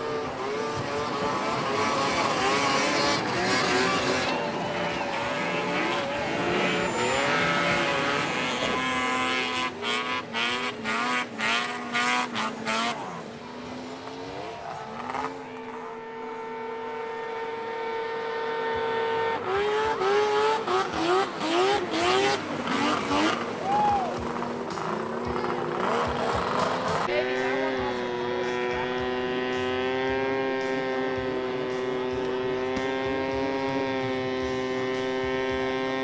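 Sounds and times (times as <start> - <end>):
snowmobile engines revving: 0.0 - 36.0.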